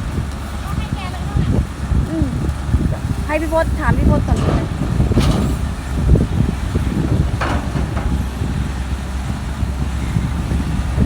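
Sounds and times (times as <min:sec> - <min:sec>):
heavy machinery engine rumbling: 0:00.0 - 0:11.0
hissing gusts: 0:00.5 - 0:11.0.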